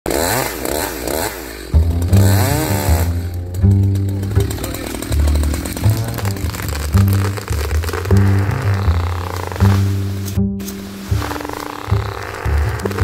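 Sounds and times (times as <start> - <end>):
chainsaw cutting wood: 0.1 - 13.0
music with deep bass: 1.8 - 13.0.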